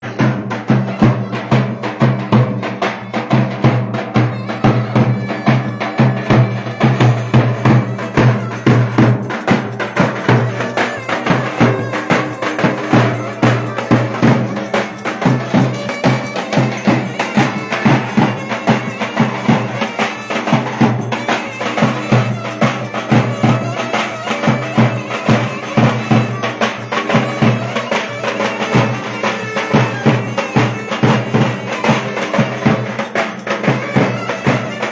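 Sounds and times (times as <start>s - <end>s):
instrumental folk dance melody: 0.0s - 34.9s
quick percussion beat: 0.0s - 34.9s.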